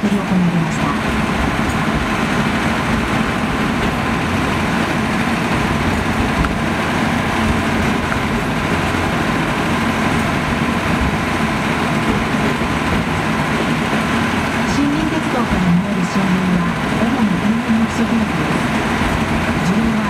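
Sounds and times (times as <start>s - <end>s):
diesel locomotive rumble: 0.0s - 20.0s
train wheels on rails: 0.0s - 20.0s.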